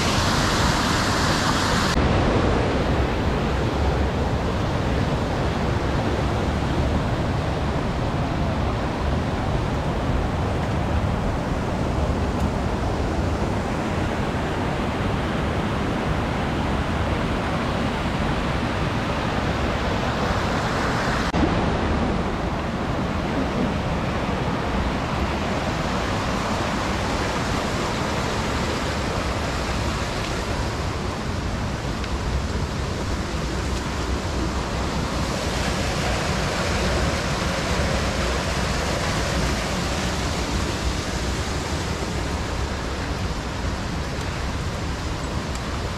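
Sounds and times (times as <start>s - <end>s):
mountain stream rushing: 0.0s - 45.9s.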